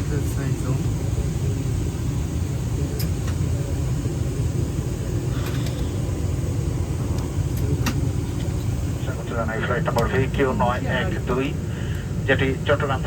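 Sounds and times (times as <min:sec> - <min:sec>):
cabin ventilation hum: 0:00.0 - 0:13.0
faint chatter: 0:00.1 - 0:11.5.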